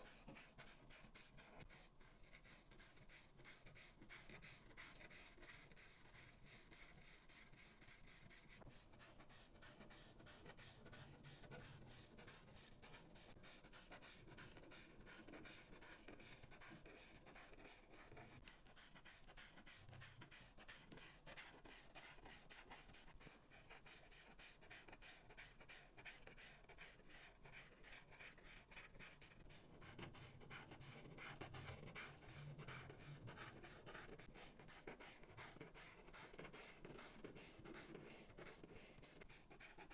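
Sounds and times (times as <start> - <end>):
marker scratching on paper: 0.0 - 39.9.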